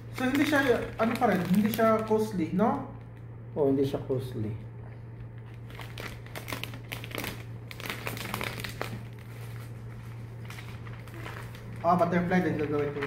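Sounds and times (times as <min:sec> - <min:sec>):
wrapping sheet crinkling: 0:00.0 - 0:03.2, 0:05.3 - 0:13.0.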